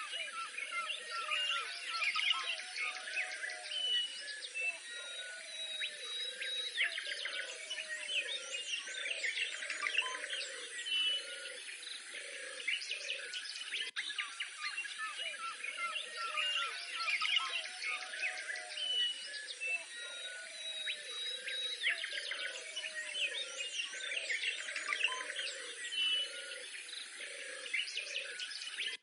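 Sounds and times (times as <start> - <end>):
small birds chirping and trilling: 0.0 - 29.0.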